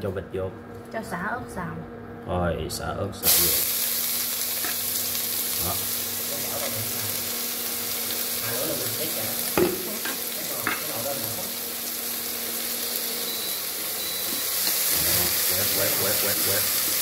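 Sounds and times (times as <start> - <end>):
food sizzling in hot oil: 3.2 - 17.0.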